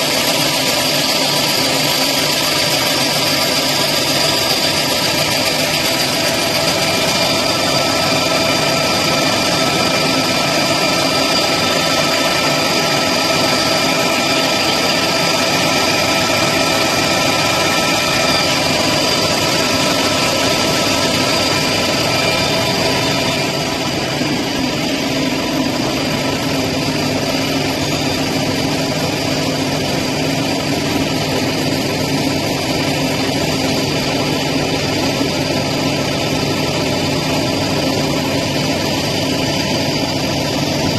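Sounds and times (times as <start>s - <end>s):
deburring machine running: 0.0s - 40.9s.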